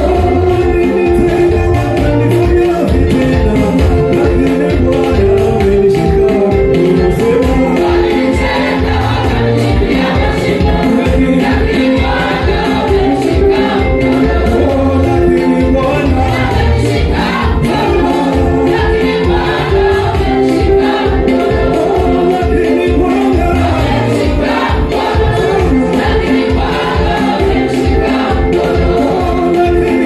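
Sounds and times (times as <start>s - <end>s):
group singing gospel song: 0.0s - 30.0s
music with steady beat: 0.0s - 30.0s.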